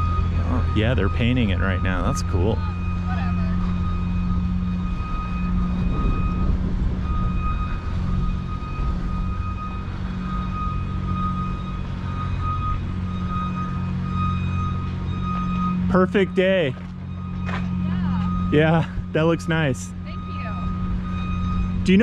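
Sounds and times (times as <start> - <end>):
engine running low hum: 0.0 - 22.0
high-pitched whine: 0.0 - 22.0.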